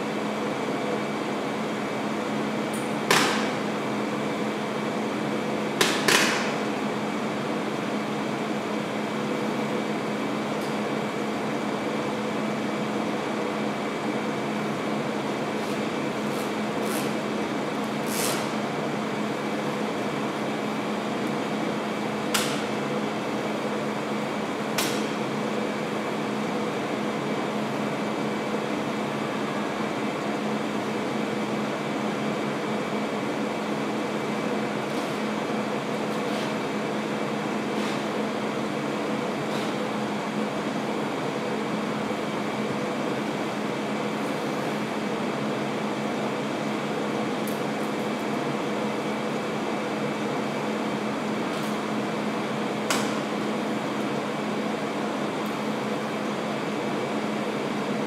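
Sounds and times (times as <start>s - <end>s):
air conditioning hum: 0.0s - 58.0s.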